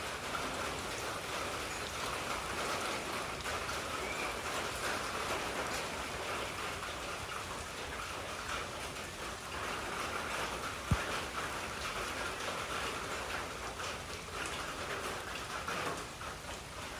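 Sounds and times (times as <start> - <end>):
rain falling steadily: 0.0 - 16.9.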